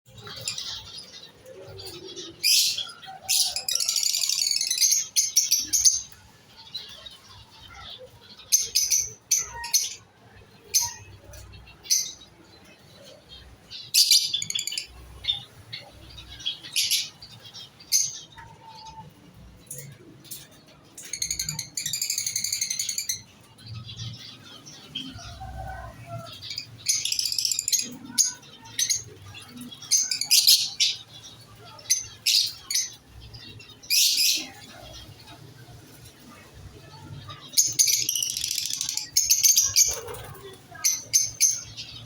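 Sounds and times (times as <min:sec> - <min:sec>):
cage birds chirping: 0:00.1 - 0:42.0.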